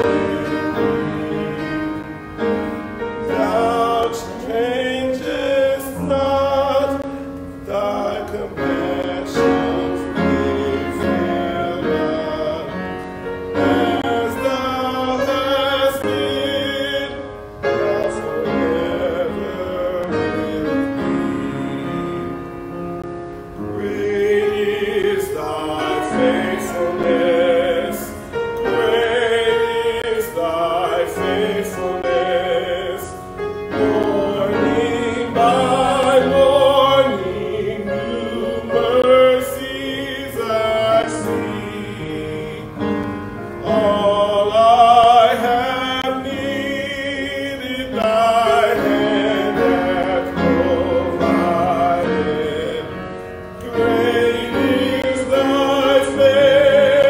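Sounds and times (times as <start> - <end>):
person singing a hymn with vibrato: 0.0 - 57.0
piano accompaniment: 0.0 - 57.0.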